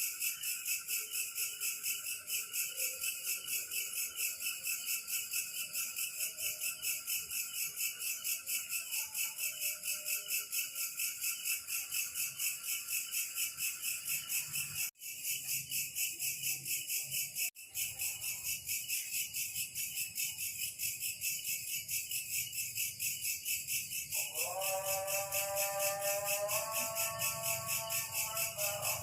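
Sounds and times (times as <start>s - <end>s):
insect chorus chirping: 0.0s - 29.0s.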